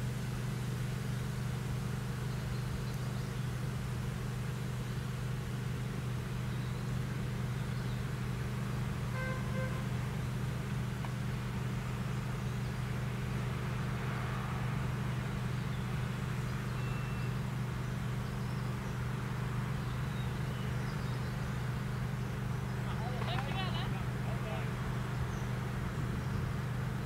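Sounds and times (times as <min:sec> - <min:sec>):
diesel train engine idling: 0:00.0 - 0:27.0.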